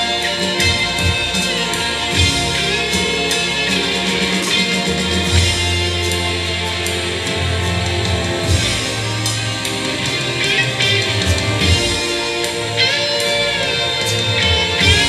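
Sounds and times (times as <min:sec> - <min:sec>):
drum kit beat: 0:00.0 - 0:15.0
electric guitars: 0:00.0 - 0:15.0
keyboard: 0:00.0 - 0:15.0.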